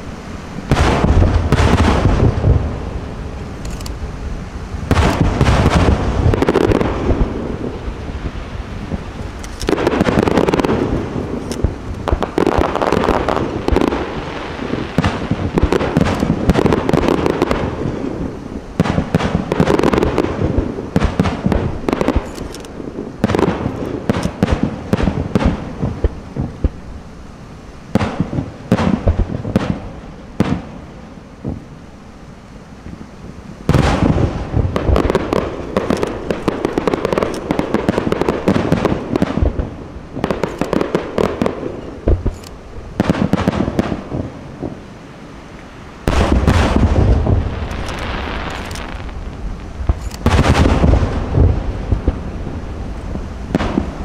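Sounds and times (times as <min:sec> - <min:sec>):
fireworks bangs and crackles: 0:00.0 - 0:27.1, 0:27.9 - 0:31.9, 0:32.8 - 0:54.0.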